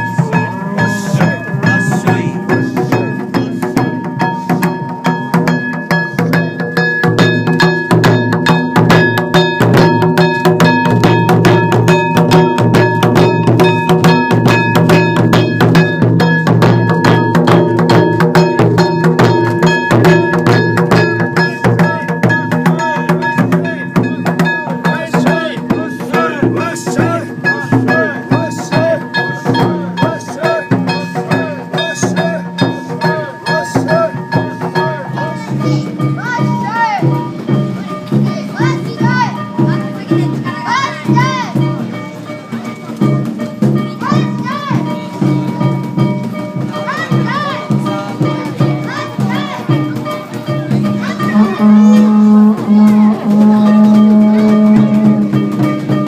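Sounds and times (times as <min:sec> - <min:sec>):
metal hand gongs clanging: 0:00.0 - 0:56.0
taiko drums: 0:00.0 - 0:56.0.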